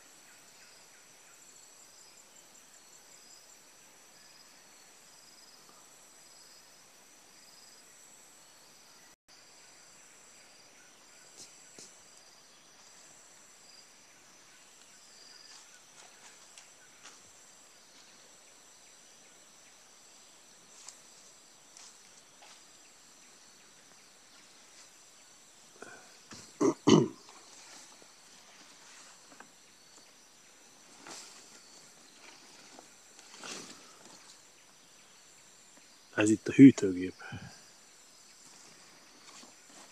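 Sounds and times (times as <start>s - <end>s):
forest background hiss: 0.0s - 39.9s.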